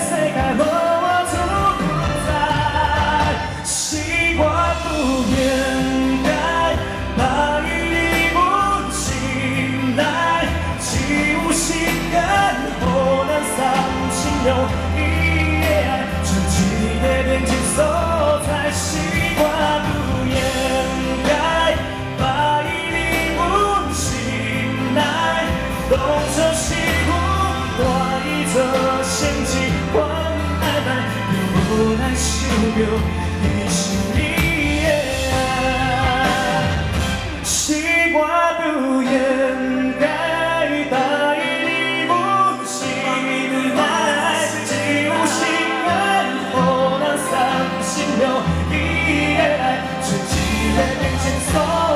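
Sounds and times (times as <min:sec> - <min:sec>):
bass line: 0:00.0 - 0:42.0, 0:43.1 - 0:51.9
drums: 0:00.0 - 0:51.9
live band playing pop: 0:00.0 - 0:51.9
person singing: 0:00.0 - 0:51.9.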